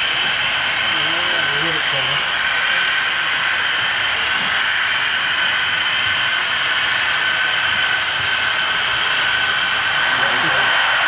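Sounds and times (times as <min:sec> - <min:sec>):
model train wheels rolling on rails: 0:00.0 - 0:10.7
high motor whine: 0:00.0 - 0:11.0.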